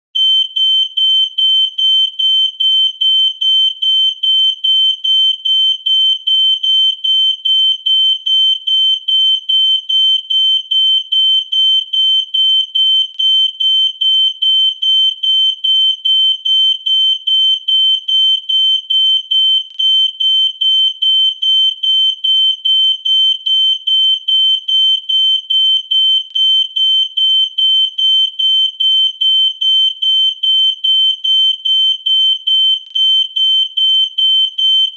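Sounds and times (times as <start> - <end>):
smoke alarm beeping: 0.2 - 34.9.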